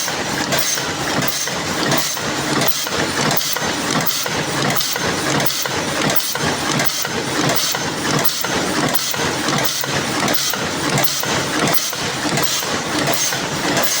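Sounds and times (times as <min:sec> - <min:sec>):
paper cup machine clattering: 0:00.0 - 0:14.0.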